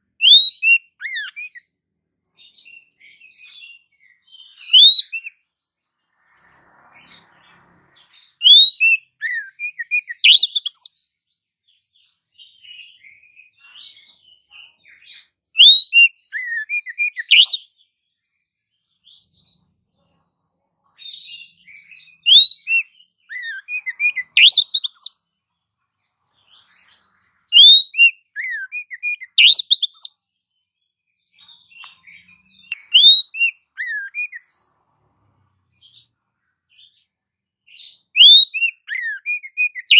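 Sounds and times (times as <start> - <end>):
faint bird twittering: 0.0 - 20.3, 20.9 - 39.9
small birds chirping: 0.0 - 39.9.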